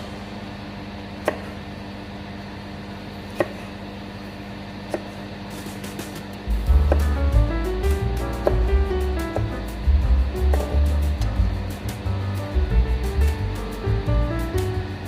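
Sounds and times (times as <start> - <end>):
low kitchen hum: 0.0 - 15.0.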